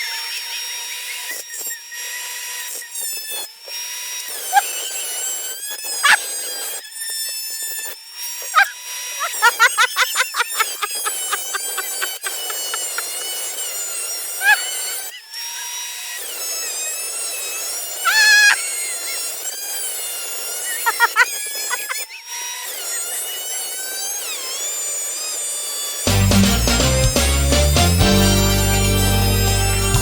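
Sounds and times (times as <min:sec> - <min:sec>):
thickness planer whining: 0:00.0 - 0:30.0.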